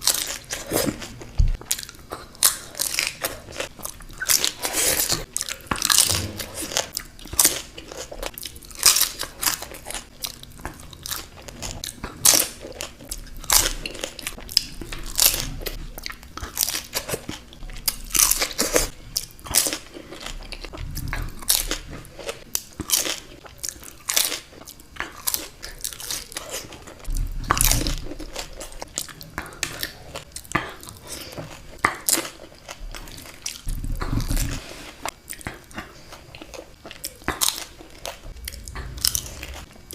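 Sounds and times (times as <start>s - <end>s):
crunching and chewing food: 0.0s - 39.9s.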